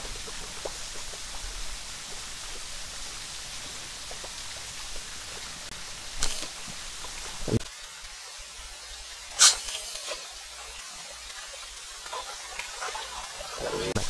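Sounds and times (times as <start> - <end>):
outdoor hiss: 0.0 - 14.0.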